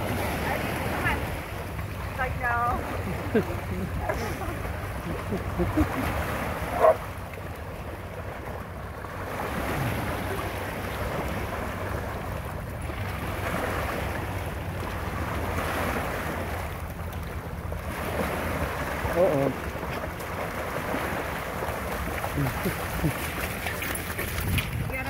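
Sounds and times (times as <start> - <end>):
waves washing over stones: 0.0 - 25.0
wind rumbling on microphone: 0.0 - 25.0.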